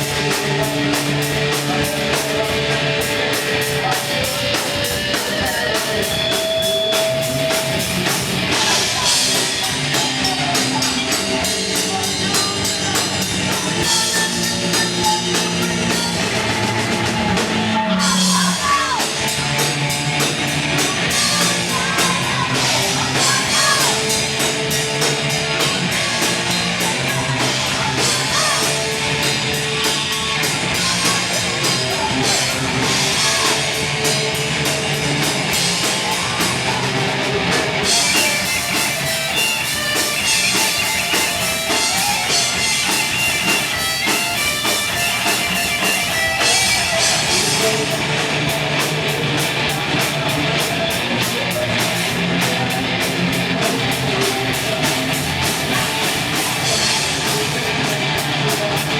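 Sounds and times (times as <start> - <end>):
heavy metal band playing: 0.0 - 58.9
pounding drum kit: 0.0 - 58.9
sung vocals: 0.0 - 58.9.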